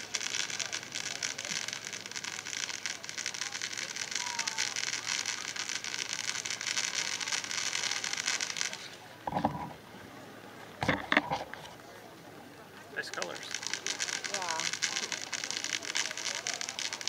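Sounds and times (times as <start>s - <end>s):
firework fountain crackling: 0.0s - 17.0s.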